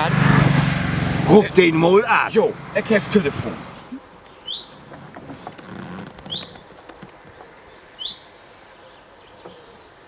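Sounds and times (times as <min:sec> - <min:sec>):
songbird chirping: 0:01.7 - 0:10.0.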